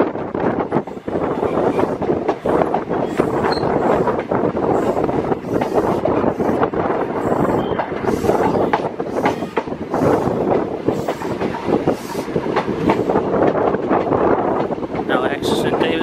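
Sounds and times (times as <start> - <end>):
train coach rumble: 0.0 - 16.0
wheels clattering over rail joints: 0.0 - 16.0.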